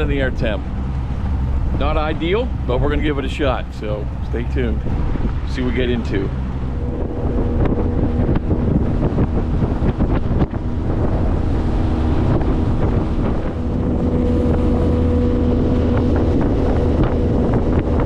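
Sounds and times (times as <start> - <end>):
outboard motor running: 0.0 - 18.0
wind buffeting microphone: 0.0 - 18.0.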